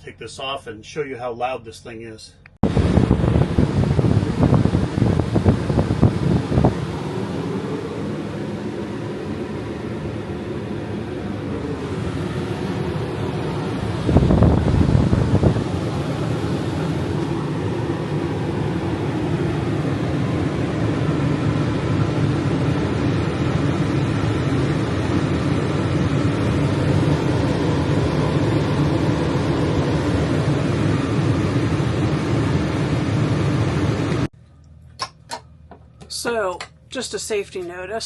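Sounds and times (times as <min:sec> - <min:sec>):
air conditioner hum: 0:00.0 - 0:38.0.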